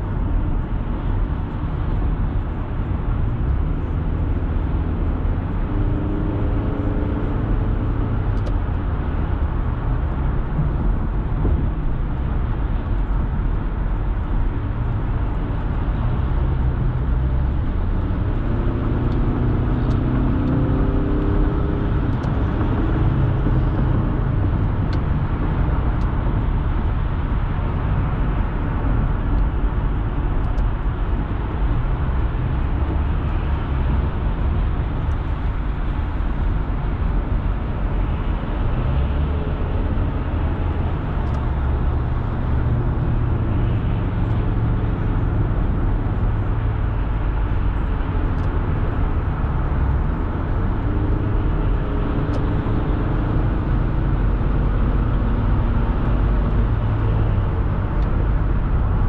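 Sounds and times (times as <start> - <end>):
low engine drone: 0.0 - 59.0
road and tyre noise: 0.0 - 59.0.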